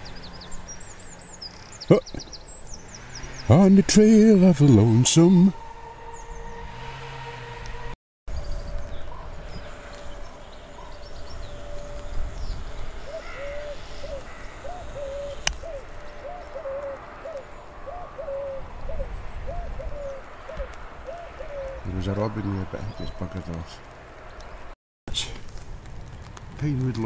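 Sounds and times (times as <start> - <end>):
bird calling low notes: 0.0 - 24.6.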